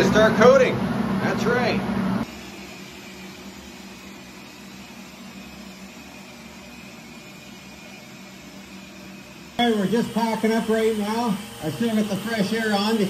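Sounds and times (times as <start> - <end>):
air supply pump humming: 0.0 - 13.0.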